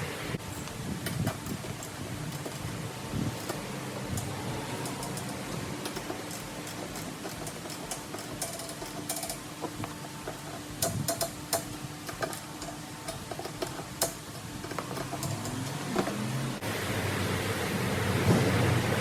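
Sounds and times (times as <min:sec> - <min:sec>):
steady low hum: 0:00.0 - 0:19.0
hand tools tapping car parts: 0:00.4 - 0:16.4.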